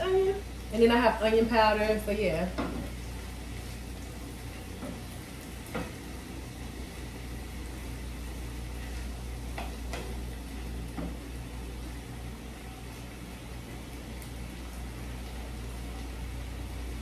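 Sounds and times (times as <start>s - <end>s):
steady low hum: 0.0s - 17.0s
vegetables sizzling in a pan: 0.0s - 17.0s.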